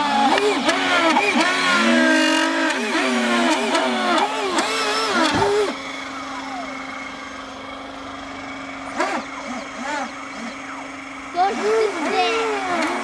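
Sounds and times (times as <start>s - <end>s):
lift fan steady whine: 0.0s - 13.0s
thrust fans rising and falling: 0.0s - 13.0s.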